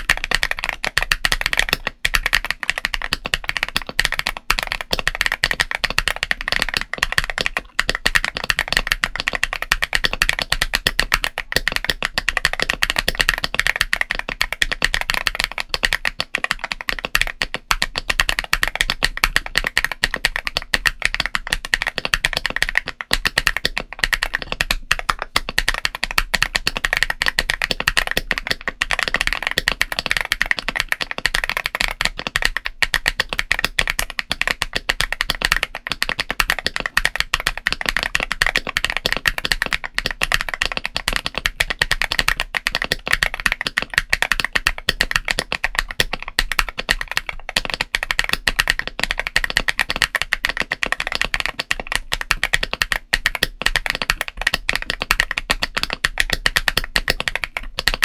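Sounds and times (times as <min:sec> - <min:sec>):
mechanical keyboard typing: 0:00.0 - 0:58.0.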